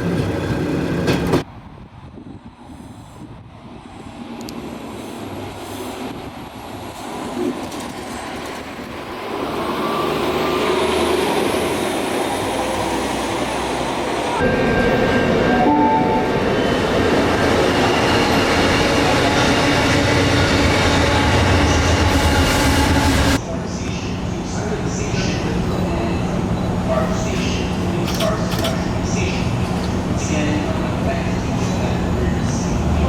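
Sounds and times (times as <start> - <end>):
train rumbling on rails: 0.0 - 33.0.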